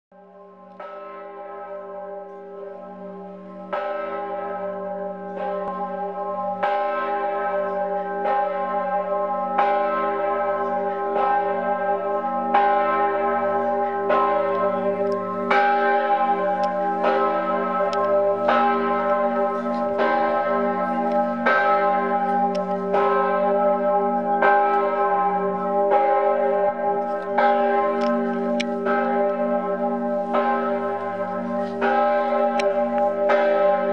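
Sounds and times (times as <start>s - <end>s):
church bells ringing: 0.2s - 33.9s.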